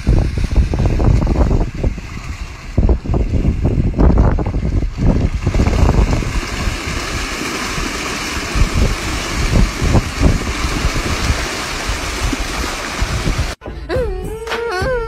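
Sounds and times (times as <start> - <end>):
water churning and splashing: 0.0 - 13.6
wind buffeting microphone: 0.0 - 13.6.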